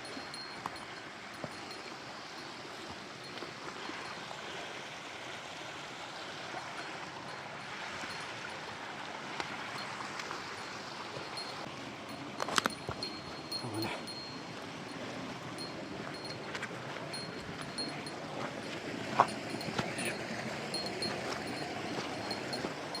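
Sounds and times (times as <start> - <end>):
stream flowing over rocks: 0.0 - 23.0.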